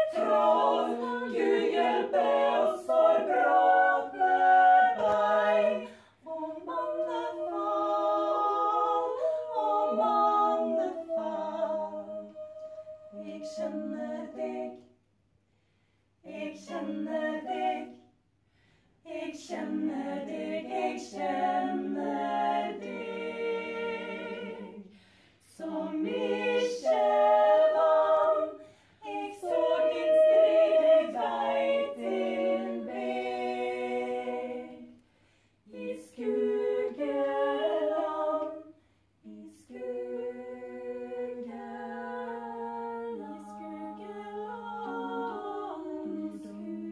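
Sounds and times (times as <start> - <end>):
voices singing a cappella: 0.0 - 15.1, 16.2 - 46.9.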